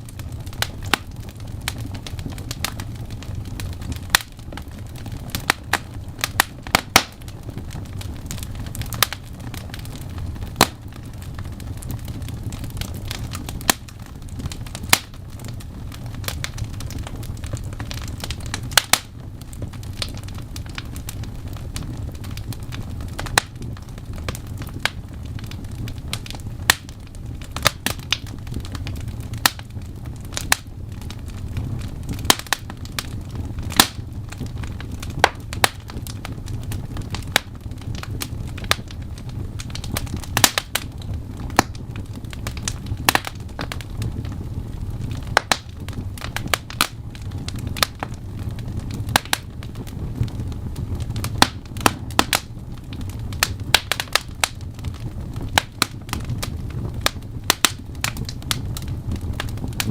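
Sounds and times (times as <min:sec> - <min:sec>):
fire crackling and popping: 0:00.0 - 0:59.9
fire low rumble: 0:00.0 - 0:59.9.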